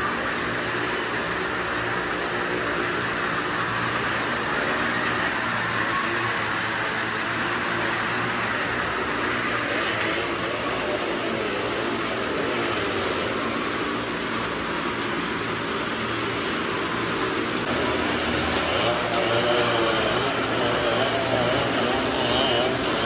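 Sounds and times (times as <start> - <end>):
car and motorcycle engines droning: 0.0 - 23.0.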